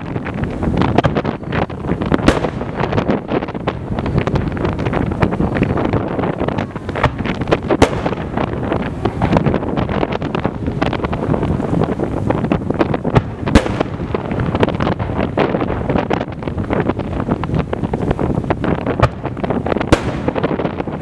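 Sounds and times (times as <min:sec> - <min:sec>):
continuous rumble: 0:00.0 - 0:21.0
fireworks bangs and crackles: 0:00.0 - 0:21.0
sharp firework reports: 0:00.0 - 0:21.0.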